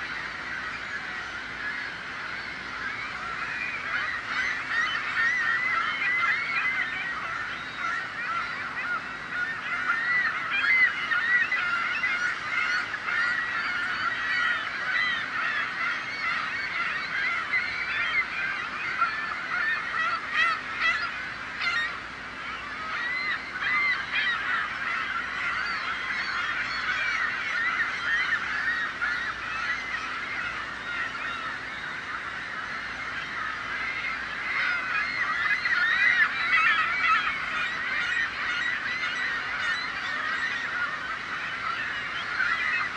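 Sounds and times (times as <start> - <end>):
gulls calling: 0.0 - 42.9.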